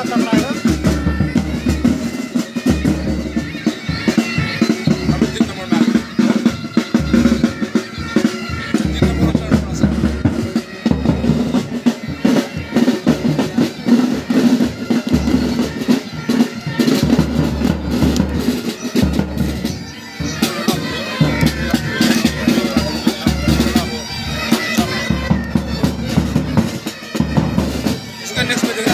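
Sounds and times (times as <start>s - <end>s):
bagpipes droning: 0.0s - 28.9s
snare drums: 0.0s - 28.9s.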